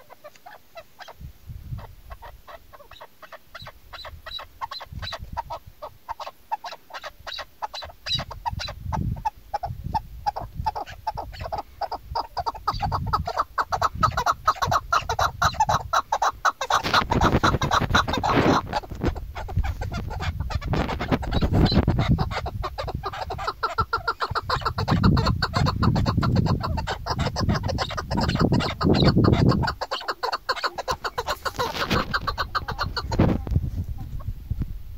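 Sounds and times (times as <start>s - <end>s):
partridge clucking call: 0.0s - 1.2s, 1.8s - 34.3s
wind on microphone: 1.0s - 6.1s, 7.2s - 34.9s.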